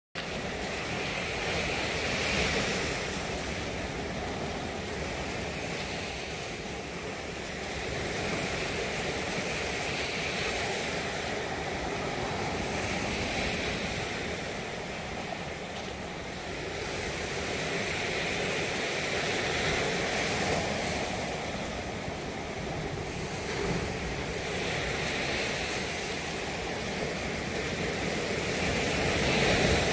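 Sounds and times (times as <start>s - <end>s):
sea surf washing onto beach: 0.2s - 29.9s
wind rumbling on microphone: 0.2s - 29.9s.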